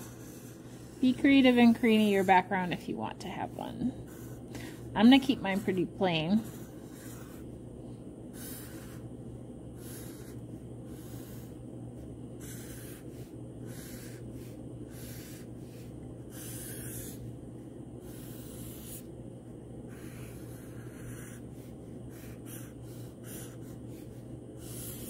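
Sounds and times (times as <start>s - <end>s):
marker scratching on paper: 0.0s - 7.6s, 8.4s - 9.0s, 9.8s - 11.6s, 12.4s - 17.3s, 18.0s - 19.1s, 19.9s - 25.0s
steady low hum: 0.0s - 25.0s.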